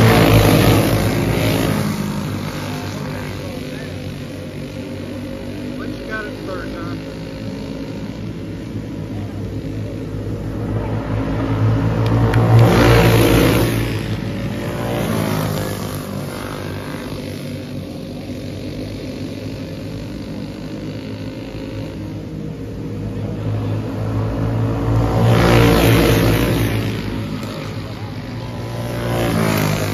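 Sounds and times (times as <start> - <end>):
race car engines running hard: 0.0 - 29.9.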